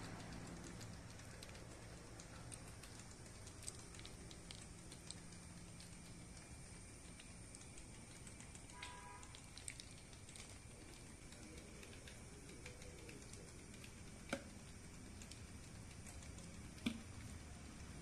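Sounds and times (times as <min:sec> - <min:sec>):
wet squishing of paste on fish: 0:00.1 - 0:17.8.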